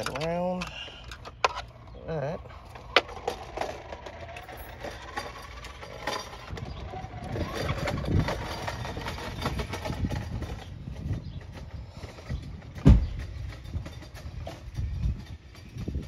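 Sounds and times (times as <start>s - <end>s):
cable scraping and rustling: 0.0s - 16.0s.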